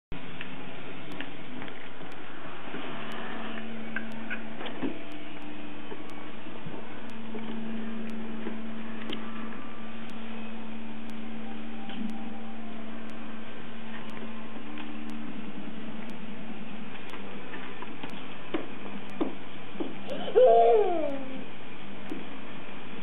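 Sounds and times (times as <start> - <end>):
low hum: 0.1 - 23.0.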